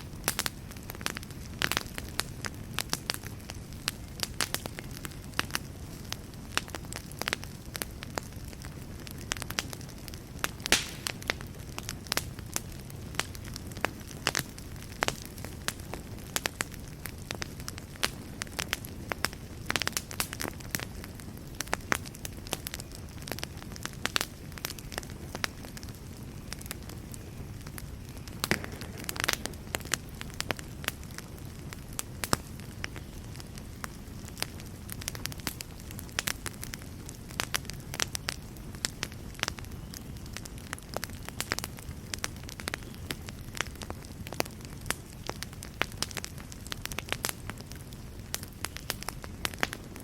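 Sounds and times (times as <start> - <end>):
fire flames rumbling: 0.0 - 50.0
wood fire crackling and popping: 0.0 - 50.0.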